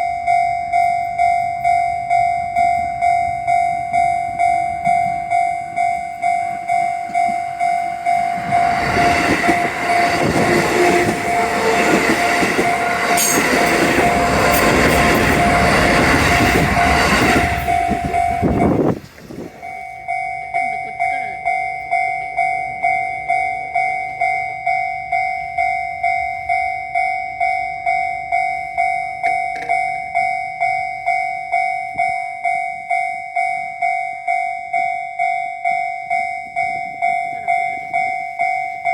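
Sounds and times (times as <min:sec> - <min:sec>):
level-crossing warning bell: 0:00.0 - 0:38.9
train passing over crossing: 0:00.0 - 0:38.9.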